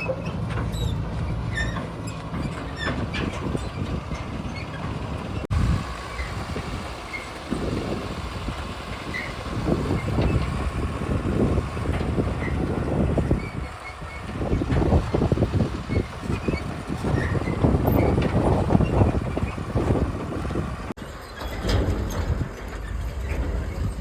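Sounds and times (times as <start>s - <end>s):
heavy vehicle diesel engine rumble: 0.0s - 24.0s.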